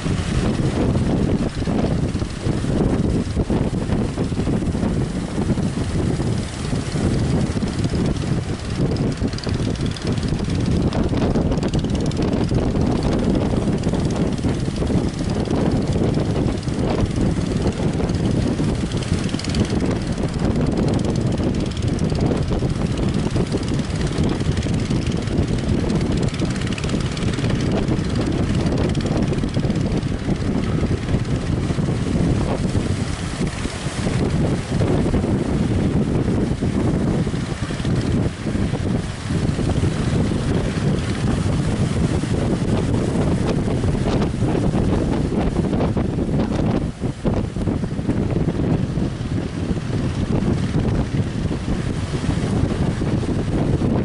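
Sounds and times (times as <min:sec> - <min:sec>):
sea noise: 0:00.0 - 0:54.0
wind buffeting microphone: 0:00.0 - 0:54.0.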